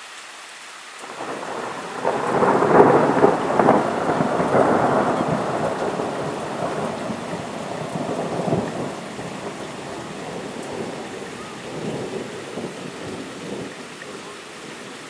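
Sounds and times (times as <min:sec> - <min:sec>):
rain hissing: 0:00.0 - 0:15.0
thunder rumbling: 0:01.0 - 0:15.0.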